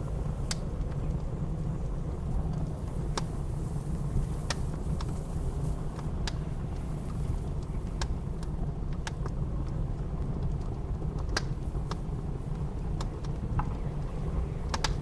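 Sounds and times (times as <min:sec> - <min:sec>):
blizzard wind rumble: 0:00.0 - 0:15.0
wood fire crackling: 0:00.0 - 0:15.0.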